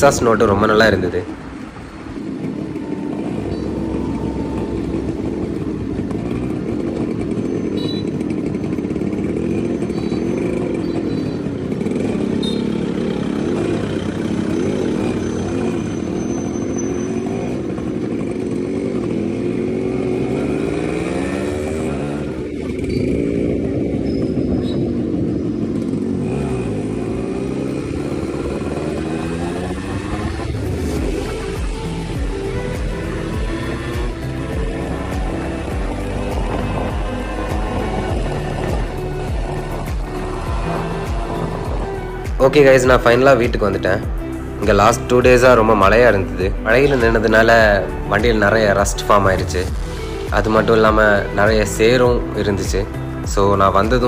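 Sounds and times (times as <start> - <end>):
two-stroke motorcycle exhaust: 1.3 - 54.0.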